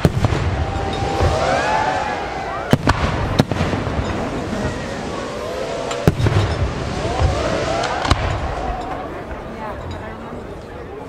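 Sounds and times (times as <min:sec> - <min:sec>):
firework crackle: 0:00.0 - 0:09.5.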